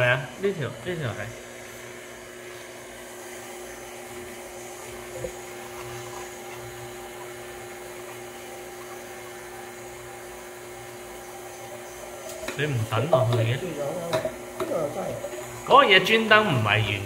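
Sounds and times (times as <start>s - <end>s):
electric juicer humming: 0.0s - 17.0s.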